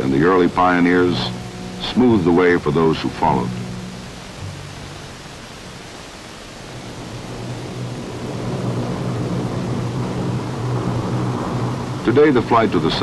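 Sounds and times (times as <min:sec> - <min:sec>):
rushing hiss: 0:00.0 - 0:13.0.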